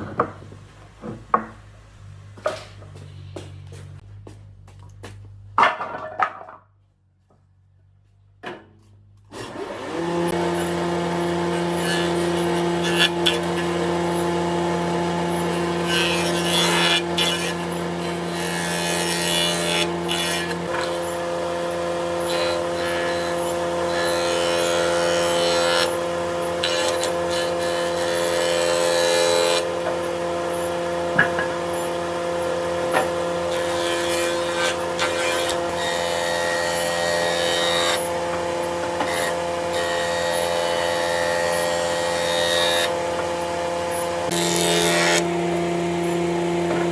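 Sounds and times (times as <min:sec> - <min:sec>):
power tool motor hum: 0:09.3 - 0:46.9
rasping wood cutting: 0:09.3 - 0:46.9.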